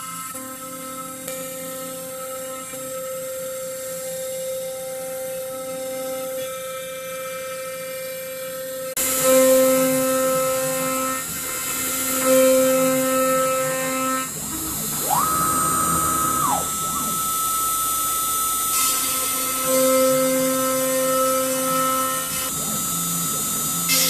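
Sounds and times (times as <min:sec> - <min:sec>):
cnc router spindle whine: 0:00.0 - 0:24.0.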